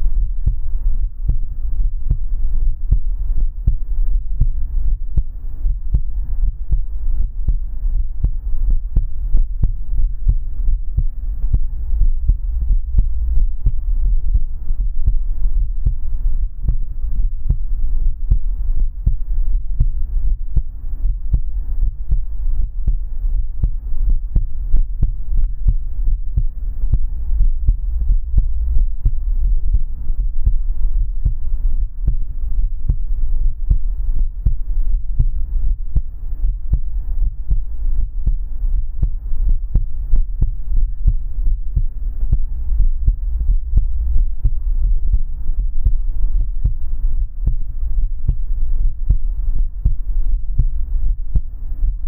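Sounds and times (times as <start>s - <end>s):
heartbeat thumps: 0.0s - 52.0s
low steady hum: 0.0s - 52.0s.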